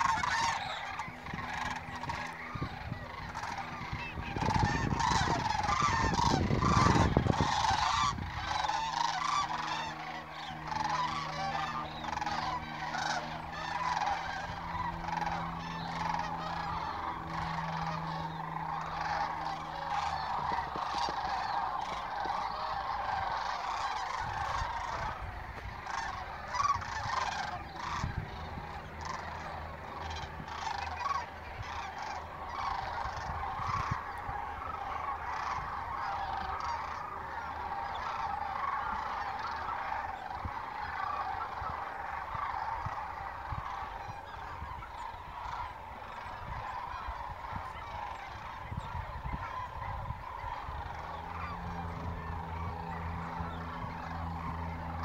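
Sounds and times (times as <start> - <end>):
flock of geese honking: 0.0 - 55.0.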